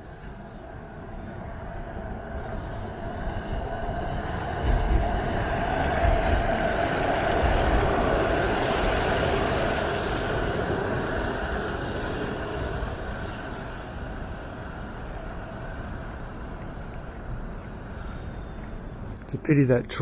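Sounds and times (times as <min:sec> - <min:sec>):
passing vehicle rumble and whine: 0:00.0 - 0:19.4.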